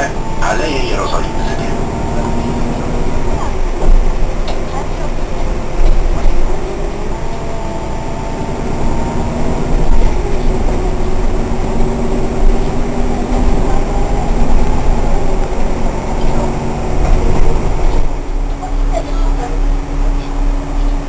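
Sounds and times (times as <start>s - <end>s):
bus engine and road rumble: 0.0s - 21.0s
drivetrain whine: 0.0s - 21.0s.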